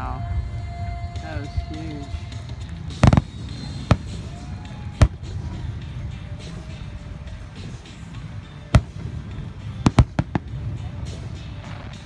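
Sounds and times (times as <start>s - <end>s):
fireworks bursting: 1.9s - 12.0s.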